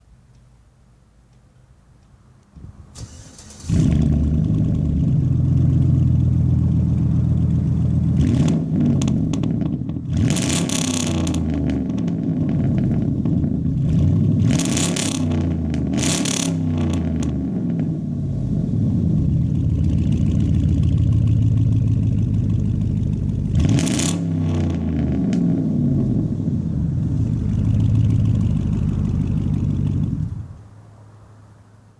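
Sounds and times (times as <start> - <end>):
truck engine starting and revving: 2.6 - 30.7.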